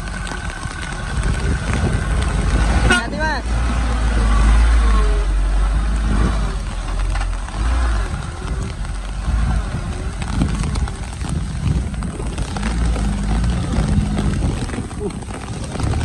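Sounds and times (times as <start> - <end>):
truck engine passing by: 0.0 - 16.0.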